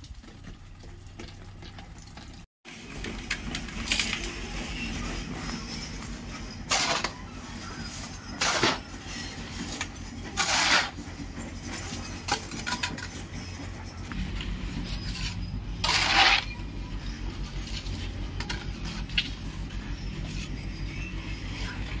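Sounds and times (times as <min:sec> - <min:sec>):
metal scraping through wet cement: 0:03.7 - 0:22.0.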